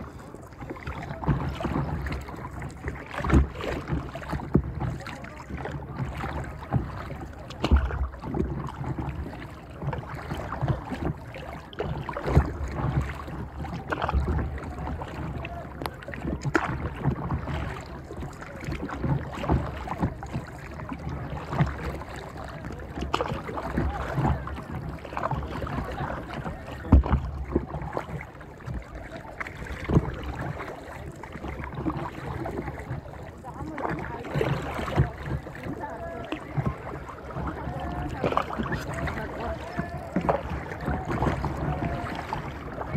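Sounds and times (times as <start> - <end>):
water lapping against kayak hull: 0.0 - 42.9.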